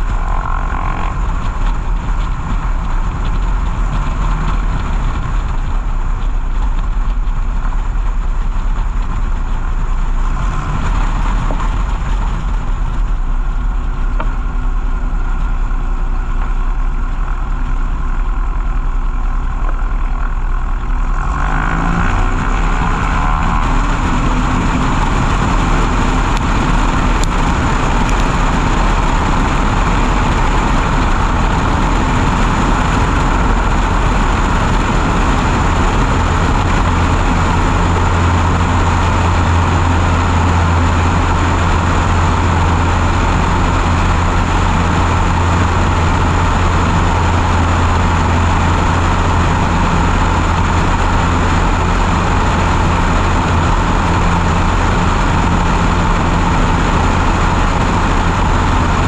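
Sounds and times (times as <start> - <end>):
light aircraft engine droning: 0.0 - 59.0
wind rush on camera: 0.0 - 59.0.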